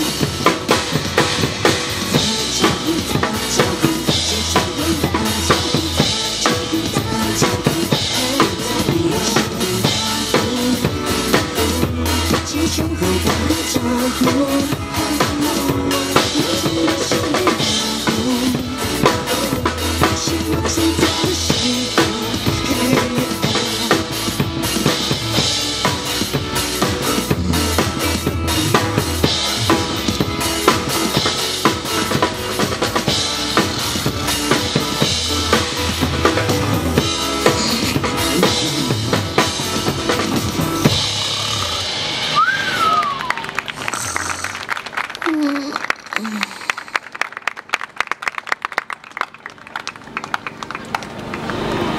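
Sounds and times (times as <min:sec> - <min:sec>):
drum kit playing: 0:00.0 - 0:44.7
pop backing track: 0:00.0 - 0:44.7.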